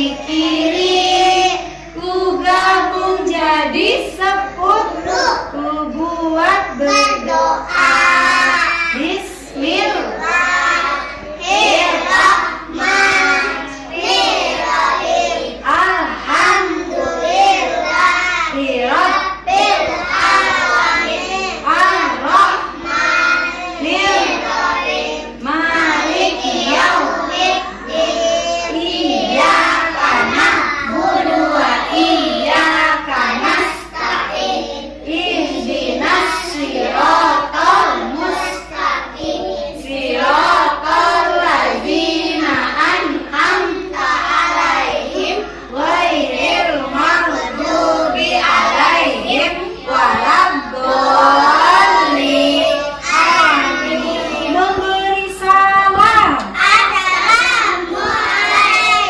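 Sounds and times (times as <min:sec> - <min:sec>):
children chanting prayers: 0:00.0 - 0:59.0.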